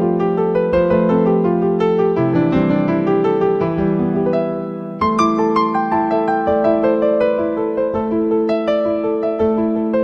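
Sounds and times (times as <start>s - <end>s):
keyboard background music: 0.0s - 10.0s.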